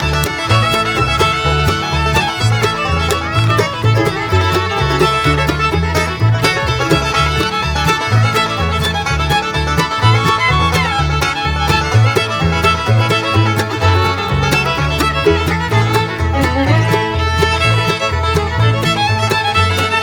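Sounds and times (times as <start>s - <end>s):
instrumental background music: 0.0s - 20.0s.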